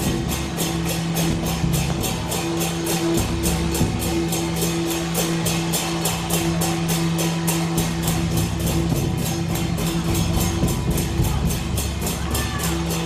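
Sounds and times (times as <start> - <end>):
bright cymbal-like hits: 0.0 - 13.0
large drums beating fast: 0.0 - 13.0
music with held low notes: 0.0 - 13.0.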